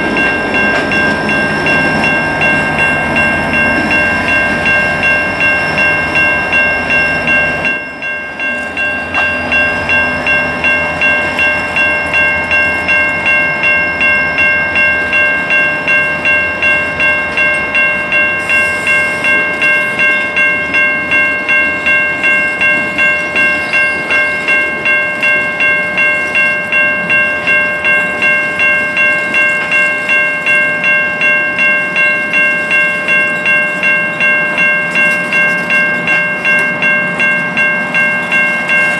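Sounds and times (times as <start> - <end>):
level crossing bell ringing: 0.0 - 38.9.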